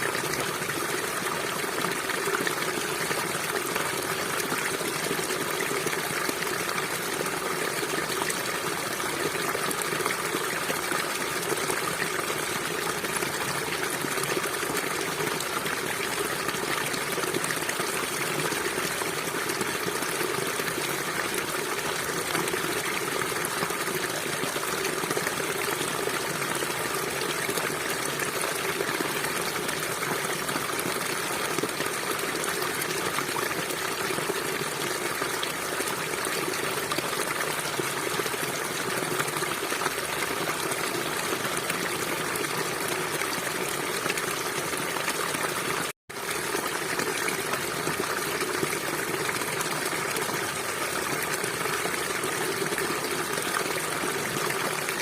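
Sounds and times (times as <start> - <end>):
river water flowing over rocks: 0.0 - 55.0.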